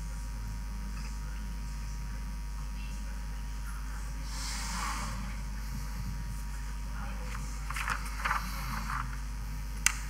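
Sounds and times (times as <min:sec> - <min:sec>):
low mains hum: 0:00.0 - 0:10.0.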